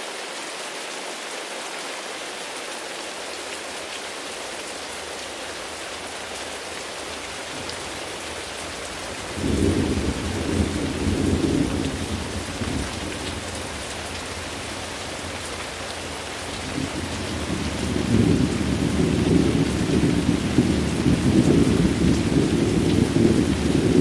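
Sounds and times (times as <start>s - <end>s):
steady rain: 0.0s - 24.0s
thunder rumbling: 4.7s - 24.0s.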